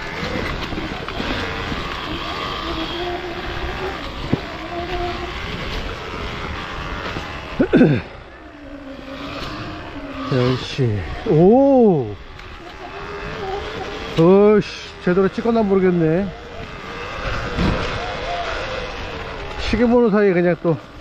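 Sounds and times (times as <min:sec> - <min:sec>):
vehicle motor running: 0:00.0 - 0:21.0.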